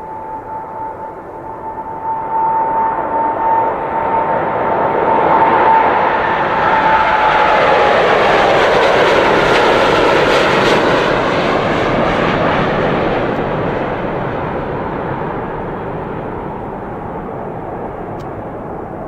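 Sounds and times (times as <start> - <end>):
airplane engine roar: 0.0 - 19.0
faint engine whine: 0.0 - 19.0.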